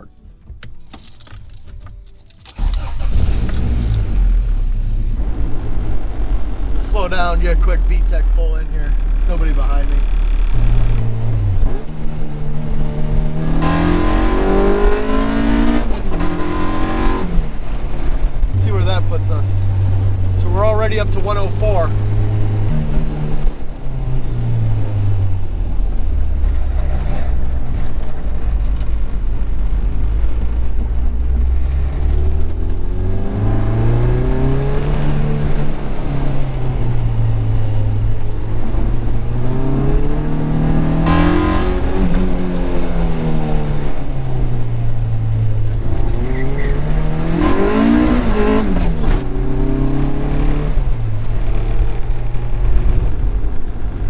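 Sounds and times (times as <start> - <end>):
car engine revving: 0.0 - 54.0
road noise: 0.0 - 54.0.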